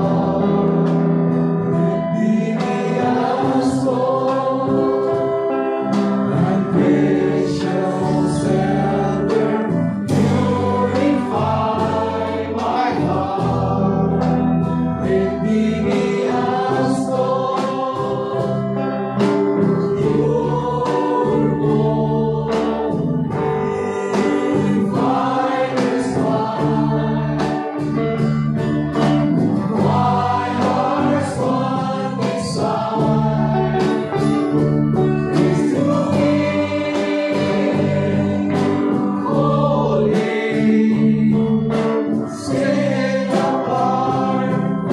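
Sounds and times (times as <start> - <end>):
voices singing: 0.0 - 28.4, 29.0 - 44.9
worship band playing: 0.0 - 44.9.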